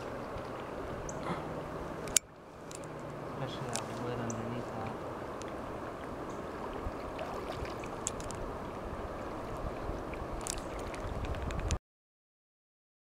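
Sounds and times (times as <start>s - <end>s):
river water rushing: 0.0s - 11.3s.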